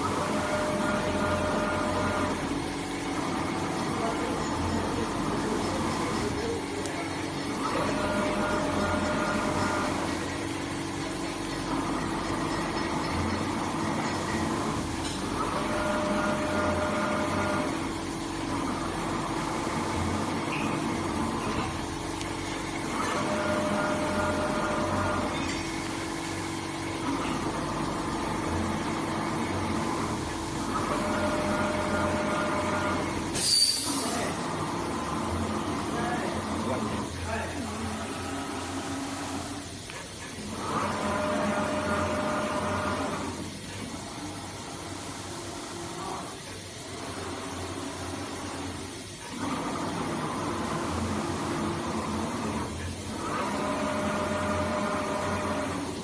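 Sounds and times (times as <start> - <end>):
machine hum: 0.0 - 56.0
thin motor whine: 0.0 - 56.0.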